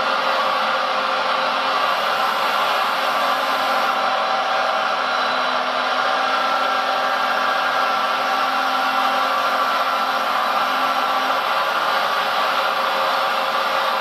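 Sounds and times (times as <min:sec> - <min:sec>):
hydraulic pump whining: 0:00.0 - 0:14.0.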